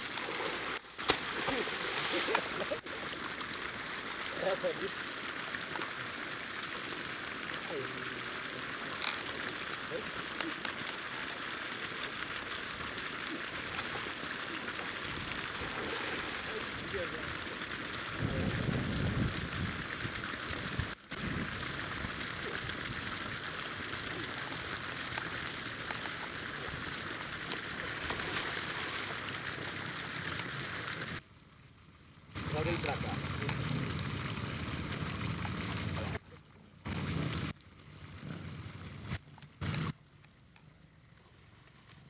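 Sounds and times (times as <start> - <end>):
water splashing and lapping: 0.0 - 31.2, 32.4 - 40.0.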